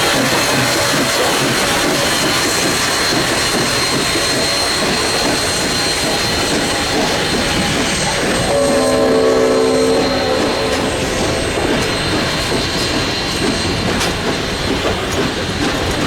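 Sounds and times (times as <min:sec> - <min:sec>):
steam locomotive roaring: 0:00.0 - 0:16.0.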